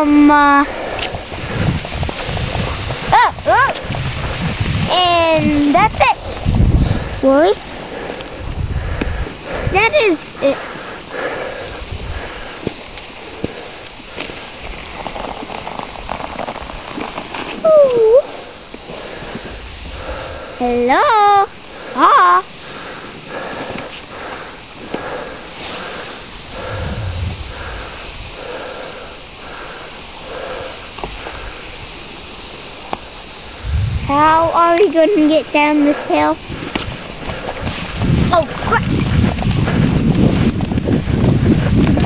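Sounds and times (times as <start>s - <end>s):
sled runners hissing on snow: 0.0s - 42.0s
soft rhythmic breaths: 0.0s - 42.0s
wind: 0.0s - 42.0s.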